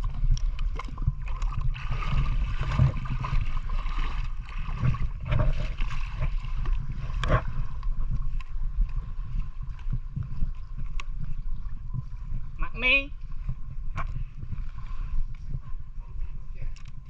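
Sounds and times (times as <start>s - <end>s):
low steady rumble: 0.0s - 17.0s
water sloshing around a boat: 0.0s - 17.0s.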